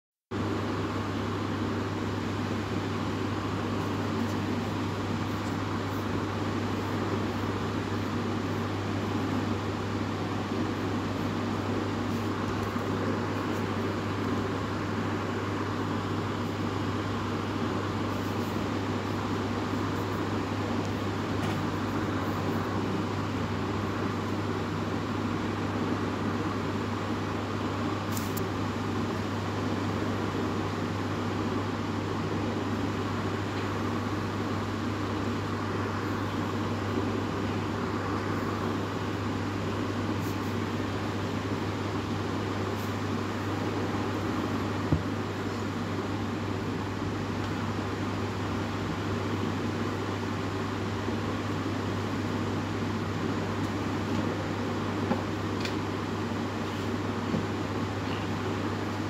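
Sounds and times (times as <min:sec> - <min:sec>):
constant hiss: 0:00.3 - 0:59.0
steady low hum: 0:00.3 - 0:59.0.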